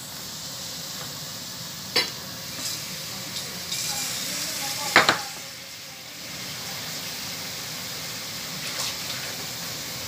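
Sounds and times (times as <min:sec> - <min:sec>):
garlic sizzling in hot oil: 0:00.0 - 0:10.0.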